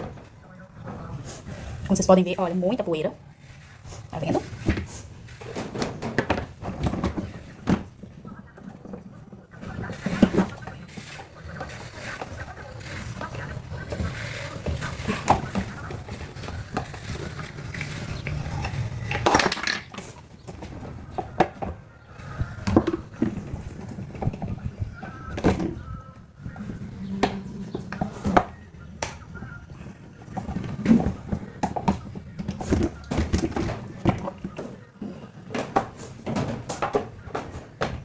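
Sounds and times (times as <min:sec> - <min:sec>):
plastic parts clicking and clattering: 0:03.0 - 0:38.0.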